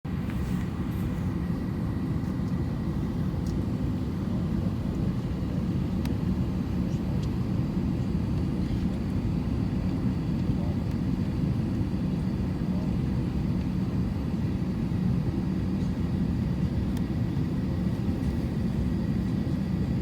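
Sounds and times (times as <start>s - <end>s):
airplane cabin rumble: 0.1s - 20.0s.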